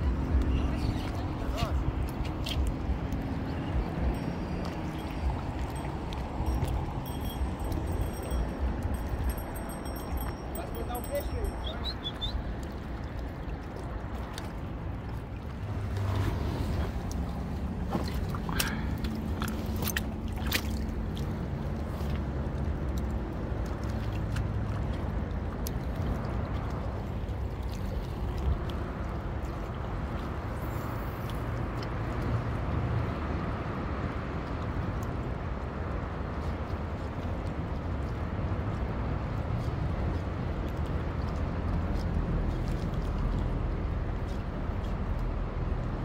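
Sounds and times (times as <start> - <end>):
waves sloshing against rocks: 0.0 - 46.0.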